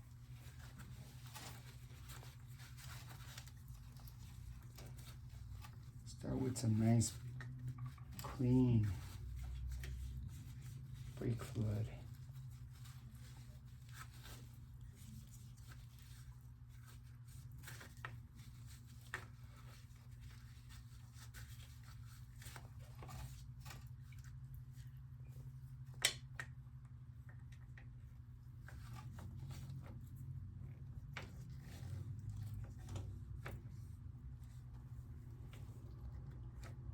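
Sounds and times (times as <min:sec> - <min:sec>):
clicks and rustles of hands: 0:00.1 - 0:36.9.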